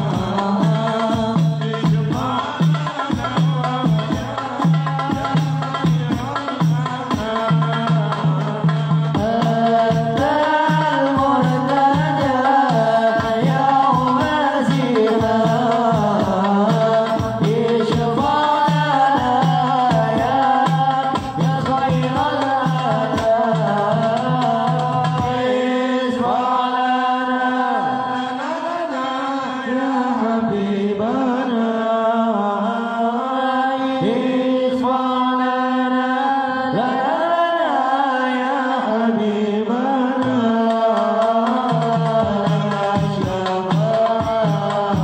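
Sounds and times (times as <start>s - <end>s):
men chanting in unison: 0.0s - 45.0s.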